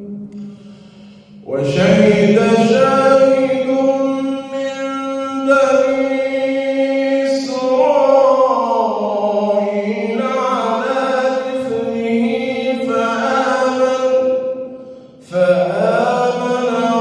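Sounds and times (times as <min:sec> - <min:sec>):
man chanting melodically: 0:01.3 - 0:17.0.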